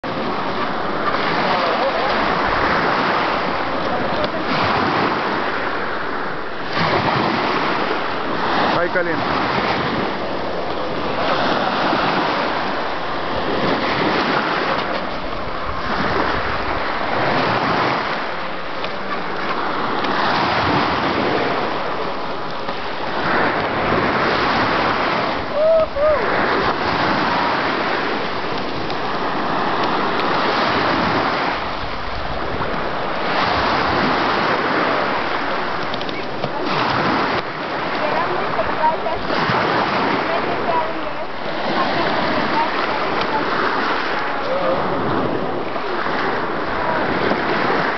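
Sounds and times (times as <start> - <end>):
sea waves washing: 0.0 - 47.9
wind buffeting microphone: 0.0 - 47.9.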